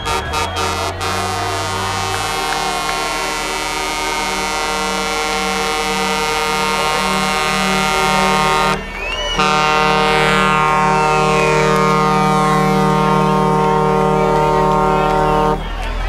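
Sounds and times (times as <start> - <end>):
truck air horns: 0.0 - 16.0.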